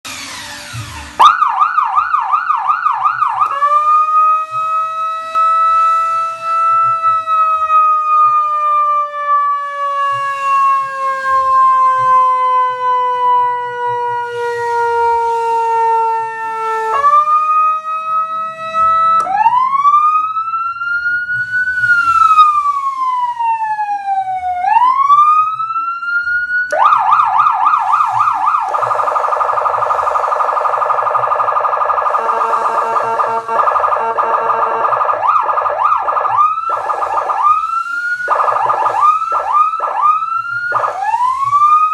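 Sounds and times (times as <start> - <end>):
electronic siren wailing: 0.0 - 41.9.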